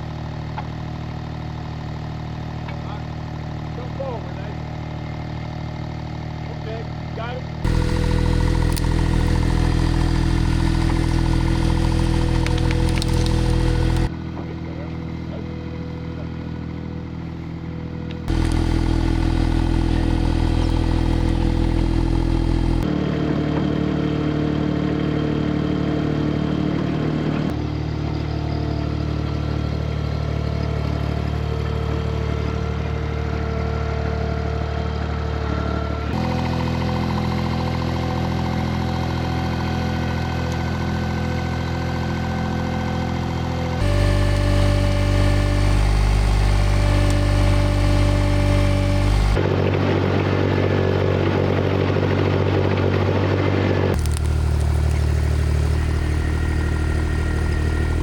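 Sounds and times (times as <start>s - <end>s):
skid steer engine running: 0.0s - 58.0s.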